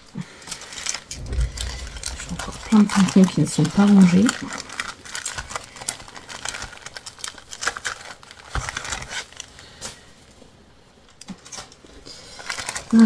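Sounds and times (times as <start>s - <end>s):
paper and plastic packets rustling: 0.0s - 10.4s, 11.0s - 13.0s.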